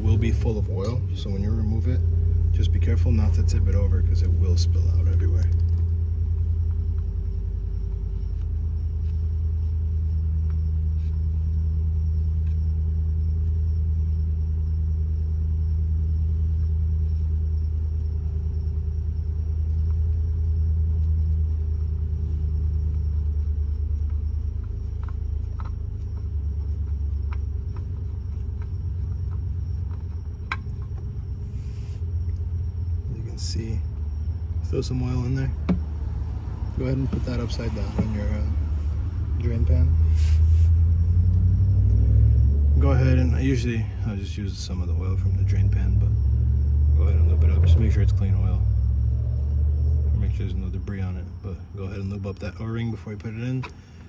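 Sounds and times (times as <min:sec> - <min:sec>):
low rumble: 0:00.0 - 0:53.1.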